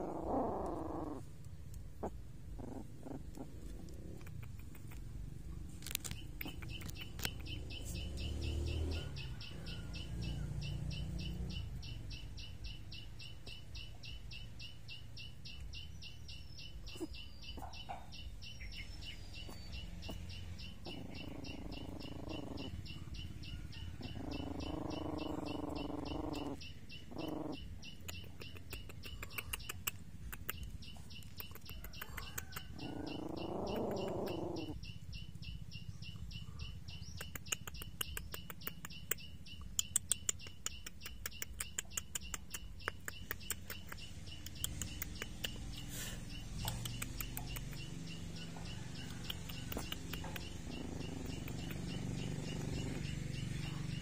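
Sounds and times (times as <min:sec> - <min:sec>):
puppies whining: 0:00.0 - 0:12.0, 0:16.7 - 0:54.0
rapid high-pitched chirping: 0:06.0 - 0:54.0.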